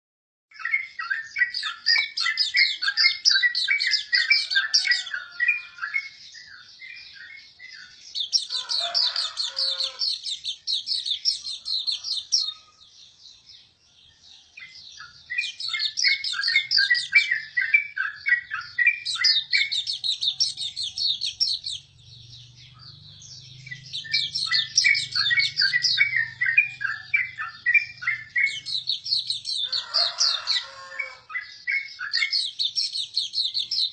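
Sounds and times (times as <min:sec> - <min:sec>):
bird singing high twittering: 0:00.5 - 0:33.9.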